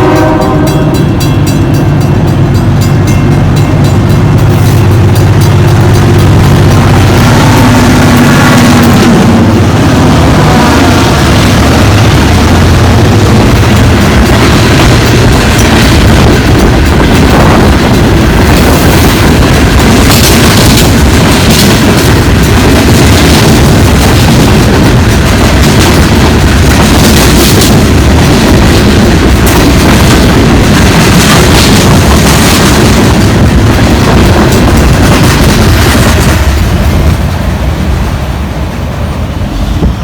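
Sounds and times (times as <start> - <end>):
train passing close by: 0.0 - 40.0.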